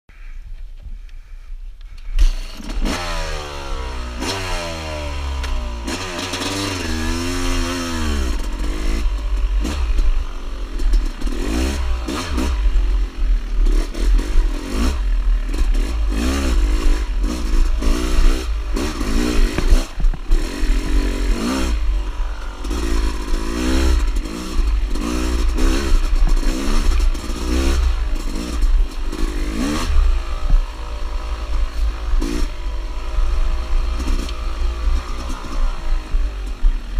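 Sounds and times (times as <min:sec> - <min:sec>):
dirt bike engine revving: 0:02.0 - 0:36.9.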